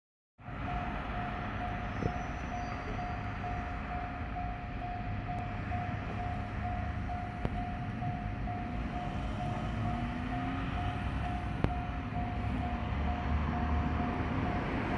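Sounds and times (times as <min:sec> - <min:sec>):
train rumble: 0:00.4 - 0:14.9.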